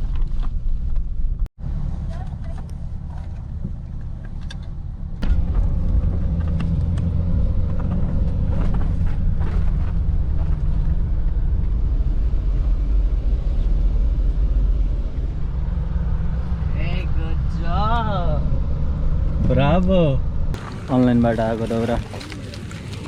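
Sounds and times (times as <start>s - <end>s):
loud low rumble: 2.7s - 22.2s.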